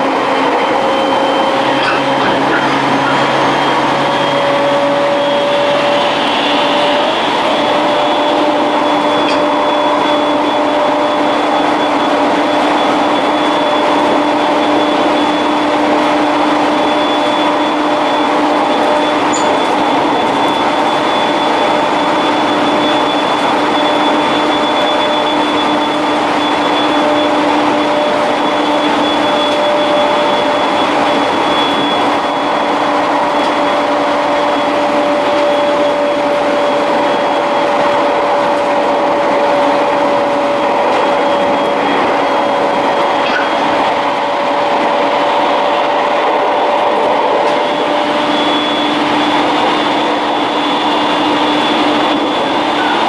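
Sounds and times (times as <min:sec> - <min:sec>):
steady humming tones: 0:00.0 - 0:53.0
train wheels rumbling on rail: 0:00.0 - 0:53.0.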